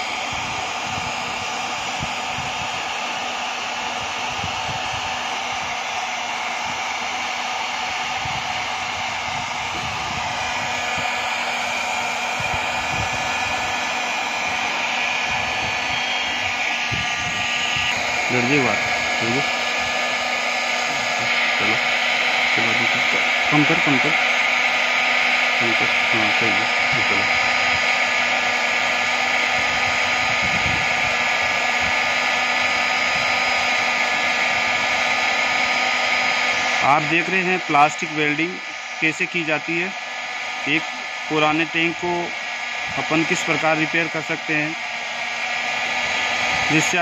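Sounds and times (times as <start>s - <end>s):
heat gun blowing hot air: 0.0s - 47.0s.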